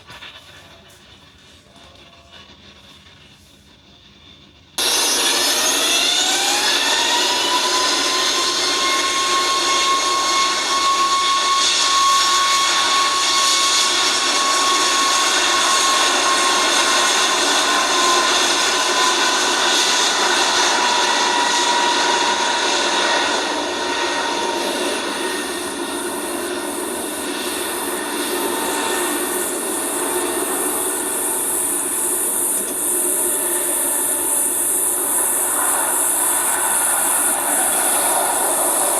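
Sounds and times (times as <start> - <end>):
jet airliner engines passing: 4.8 - 38.9.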